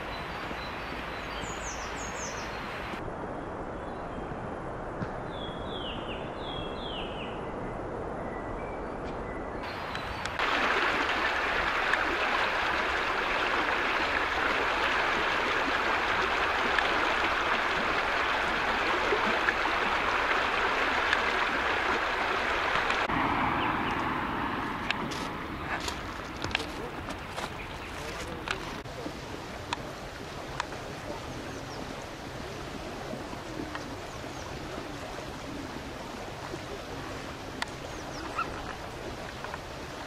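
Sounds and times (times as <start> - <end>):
steady outdoor hiss: 0.0 - 40.0.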